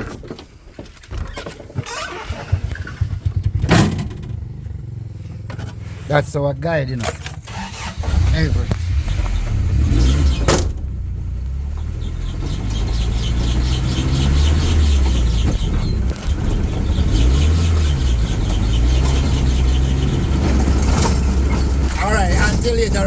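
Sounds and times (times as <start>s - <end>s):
car engine driving: 0.7s - 23.0s.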